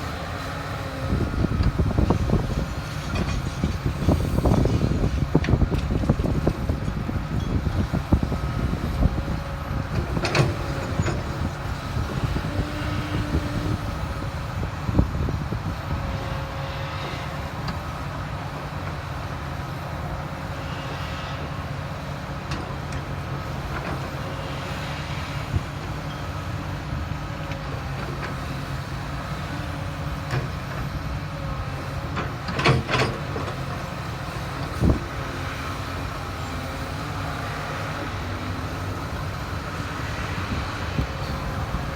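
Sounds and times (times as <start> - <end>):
heavy diesel engines running: 0.0 - 41.9.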